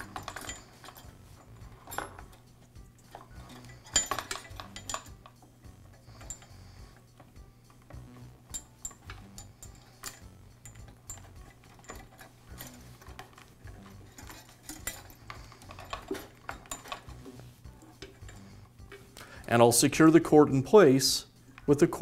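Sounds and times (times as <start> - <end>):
wires clicking being handled: 0.0 - 19.6.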